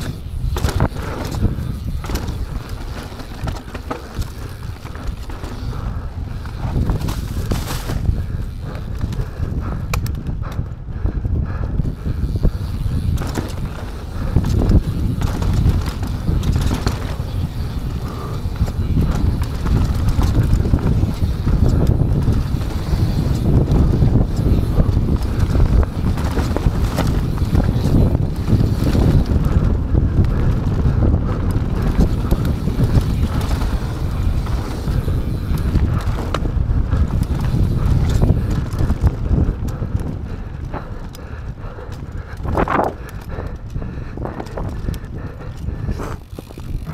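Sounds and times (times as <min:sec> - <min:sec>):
bike clattering over bumps: 0:00.0 - 0:46.9
bike tyre noise: 0:00.0 - 0:46.9
wind rumble on microphone: 0:00.0 - 0:46.9.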